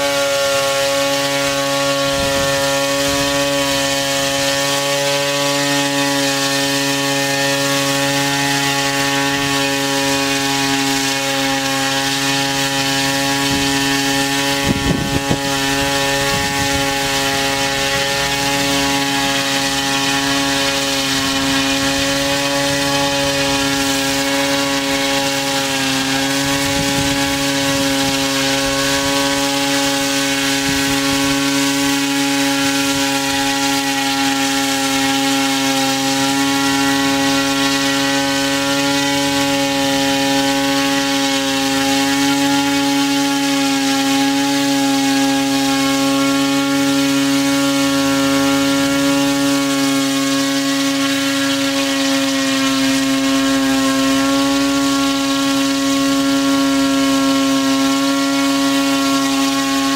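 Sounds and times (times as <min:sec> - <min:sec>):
drone rotors humming: 0:00.0 - 0:59.9.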